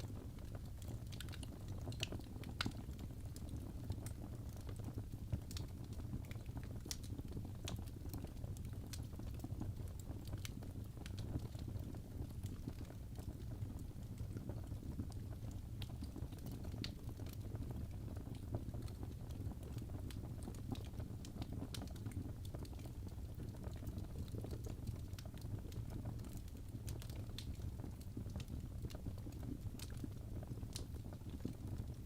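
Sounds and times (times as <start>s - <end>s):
wood fire crackling in fireplace: 0.0s - 32.0s.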